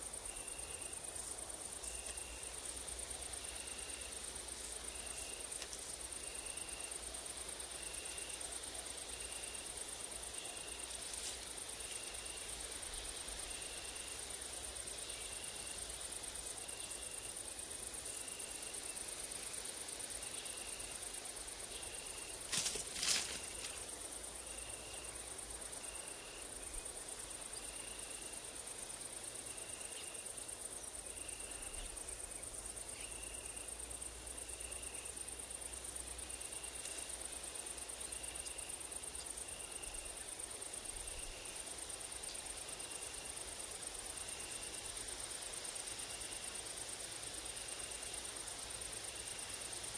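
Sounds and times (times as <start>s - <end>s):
insects stridulating: 0.0s - 49.9s
short insect chirp: 0.2s - 49.9s.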